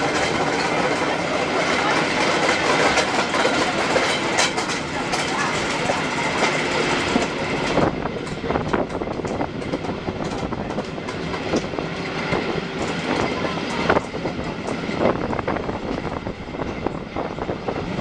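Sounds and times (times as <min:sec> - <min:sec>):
train rolling rumble: 0:00.0 - 0:18.0
wheels clicking over track: 0:00.0 - 0:18.0.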